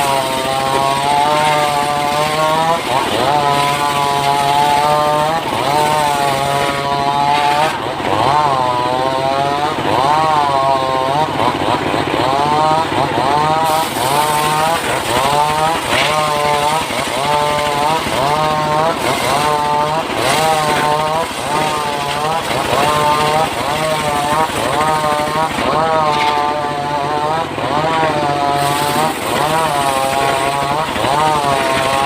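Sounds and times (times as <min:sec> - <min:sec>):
engine-driven saw cutting wood: 0:00.0 - 0:32.0.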